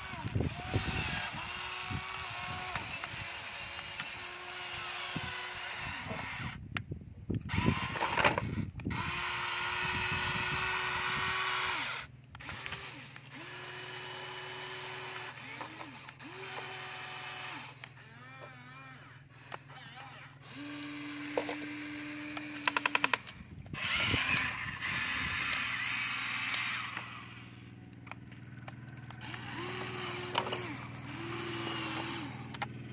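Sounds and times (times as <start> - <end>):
toy electric motors whining: 0.0 - 6.7, 7.3 - 32.9.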